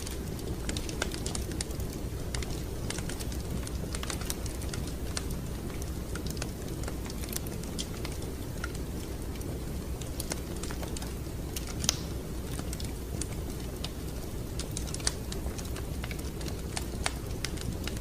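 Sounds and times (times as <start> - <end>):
low rumble of flame: 0.0 - 18.0
wood fire crackling: 0.0 - 18.0.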